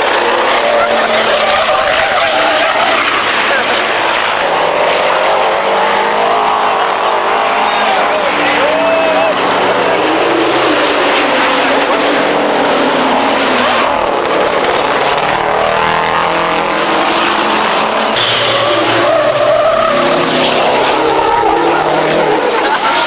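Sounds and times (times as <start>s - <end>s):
truck diesel engines racing: 0.0s - 23.0s.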